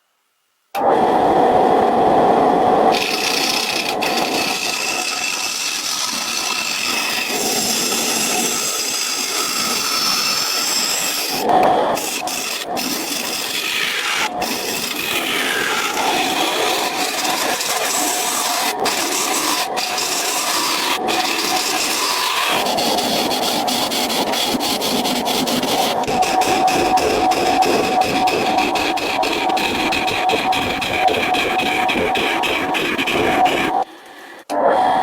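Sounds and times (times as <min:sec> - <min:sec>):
hand tool scraping wood: 0:02.9 - 0:33.9.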